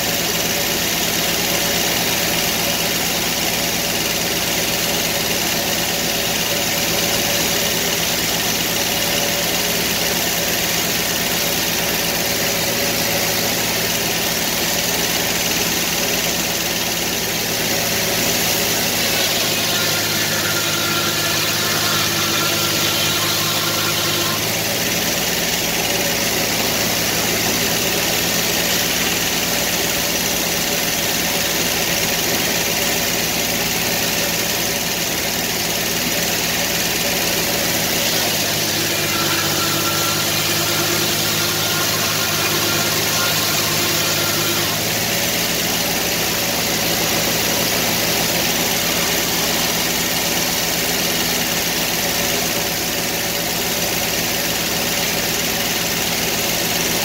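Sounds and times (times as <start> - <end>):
higher machine whine: 0.0 - 55.4
sawmill engine running: 0.0 - 57.0.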